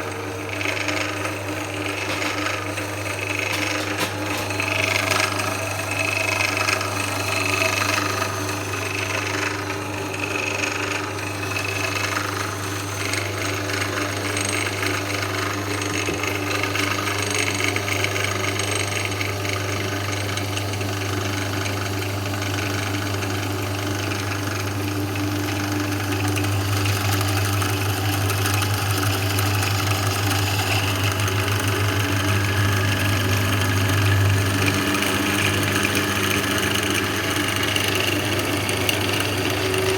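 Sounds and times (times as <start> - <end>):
drill press motor humming: 0.0 - 39.9.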